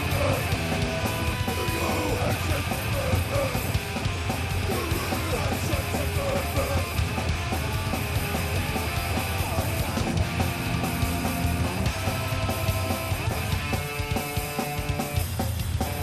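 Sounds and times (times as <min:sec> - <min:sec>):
distorted electric guitar: 0:00.0 - 0:16.0
fast drums: 0:00.0 - 0:16.0.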